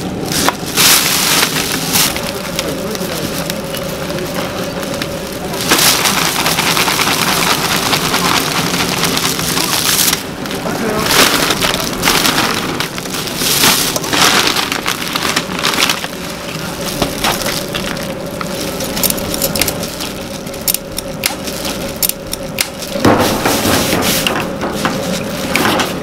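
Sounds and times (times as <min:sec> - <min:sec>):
dried food crackling and rustling: 0:00.0 - 0:26.0
faint hum: 0:00.0 - 0:26.0.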